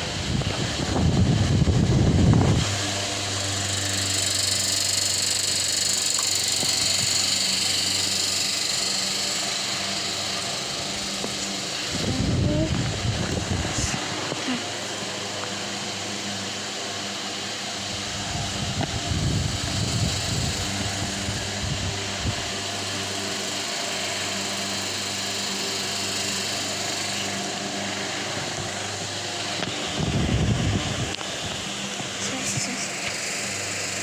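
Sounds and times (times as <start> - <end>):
fan motor hum and air rush: 0.0 - 34.0.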